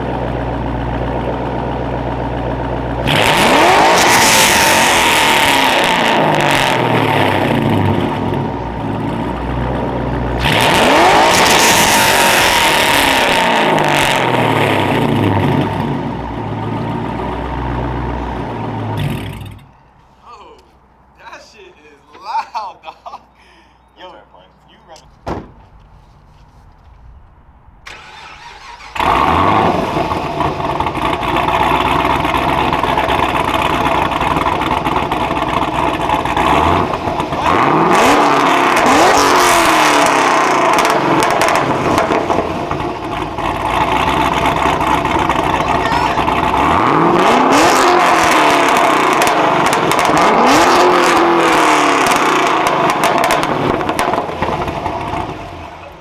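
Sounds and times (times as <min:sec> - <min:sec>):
car engine revving: 0:00.0 - 0:19.7, 0:25.0 - 0:56.0
car engine starting and idling: 0:00.0 - 0:21.5, 0:24.5 - 0:56.0.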